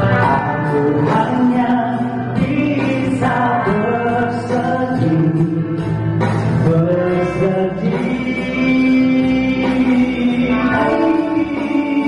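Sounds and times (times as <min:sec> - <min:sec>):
man singing into a microphone: 0:00.0 - 0:12.0
musical backing: 0:00.0 - 0:12.0.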